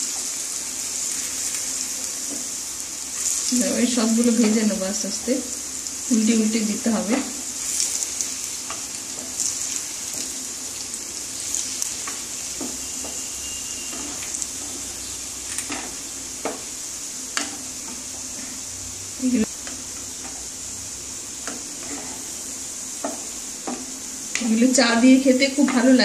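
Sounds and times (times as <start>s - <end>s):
dough sizzling in hot oil: 0.0s - 26.0s.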